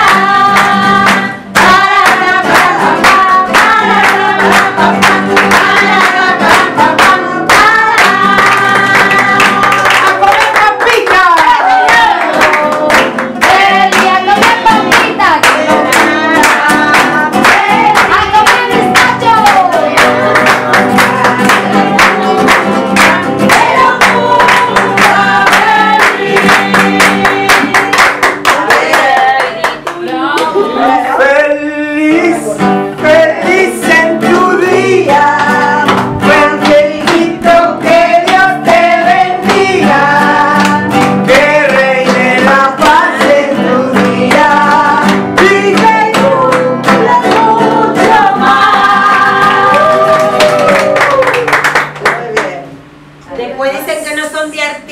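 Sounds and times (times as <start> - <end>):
people clapping hands: 0.0 - 30.6, 33.0 - 52.7
group of people singing: 0.0 - 51.0
acoustic guitar: 0.0 - 54.1.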